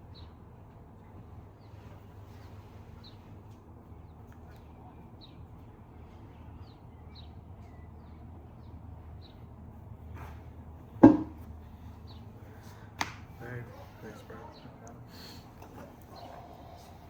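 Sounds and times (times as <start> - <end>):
birds chirping faintly: 0.0 - 17.0
steady low hum: 0.0 - 17.0.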